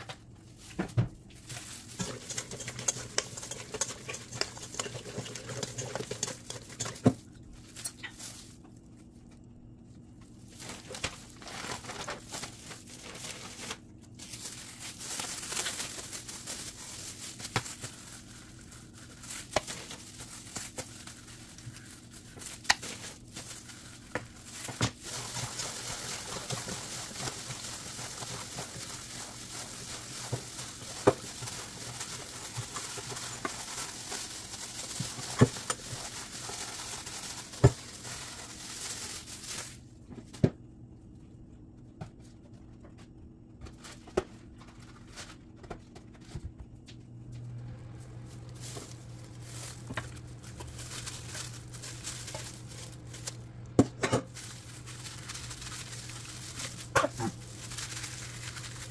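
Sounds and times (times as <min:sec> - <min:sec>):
plastic bag and gloves crinkling: 0:00.0 - 0:40.4, 0:43.6 - 0:46.8, 0:47.6 - 0:58.9.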